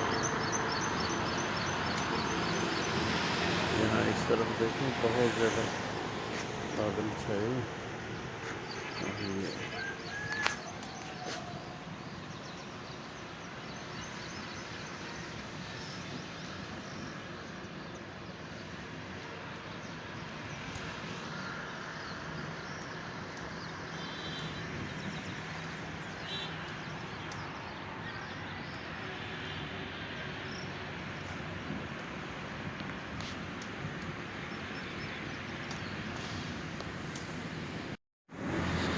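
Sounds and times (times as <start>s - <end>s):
outdoor ambient noise: 0.0s - 38.9s.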